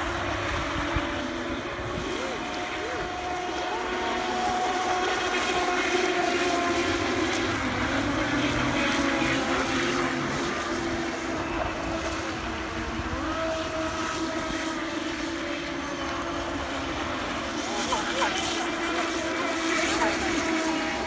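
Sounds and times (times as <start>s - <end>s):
racing boat motors whining: 0.0s - 21.0s.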